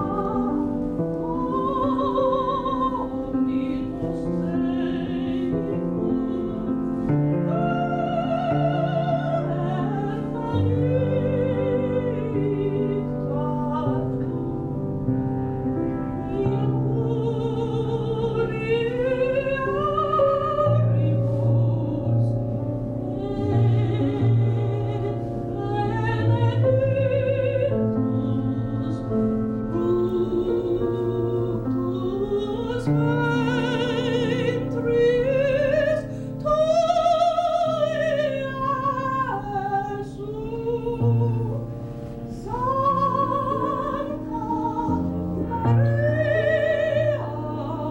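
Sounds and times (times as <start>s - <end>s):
operatic singing: 0.0s - 47.9s.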